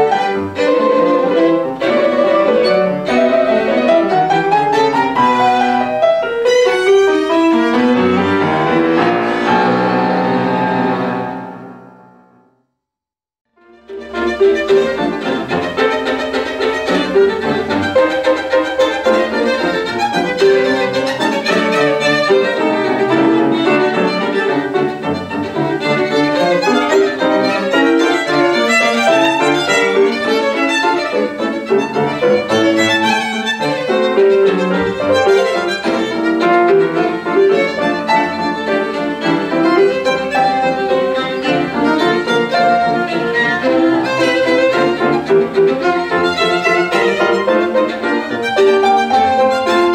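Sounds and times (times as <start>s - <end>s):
violin: 0.0s - 11.9s, 13.6s - 49.9s
grand piano: 0.0s - 12.6s, 13.6s - 49.9s.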